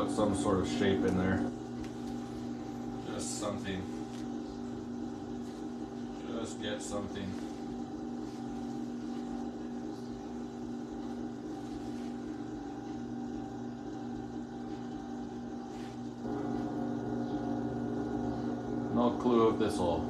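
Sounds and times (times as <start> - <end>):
potter's wheel motor hum: 0.0 - 20.0.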